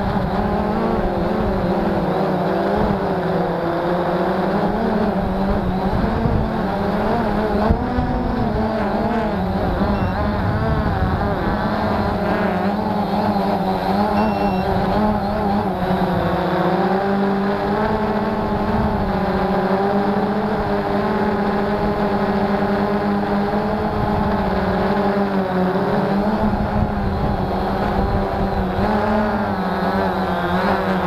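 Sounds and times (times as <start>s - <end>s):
drone motors buzzing: 0.0s - 31.0s.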